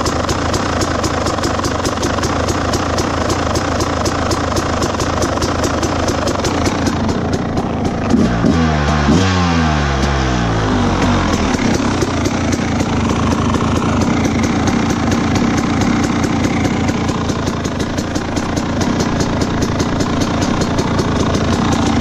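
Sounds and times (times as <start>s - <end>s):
two-stroke engine idling: 0.0s - 22.0s.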